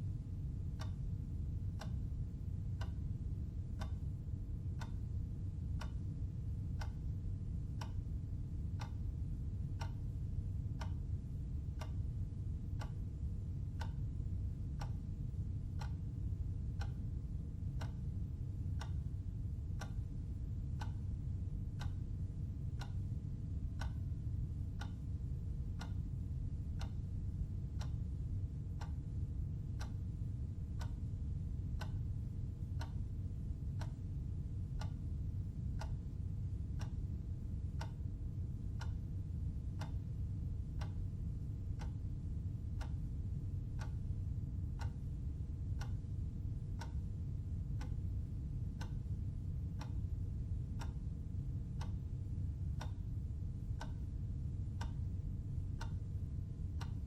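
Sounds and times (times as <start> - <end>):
low hum: 0.0 - 57.0
clock ticking: 0.7 - 4.1, 4.7 - 6.0, 6.7 - 7.1, 7.7 - 19.1, 19.7 - 26.1, 26.7 - 29.0, 29.7 - 30.1, 30.7 - 42.1, 42.7 - 44.2, 44.8 - 54.1, 54.7 - 56.1, 56.7 - 57.0.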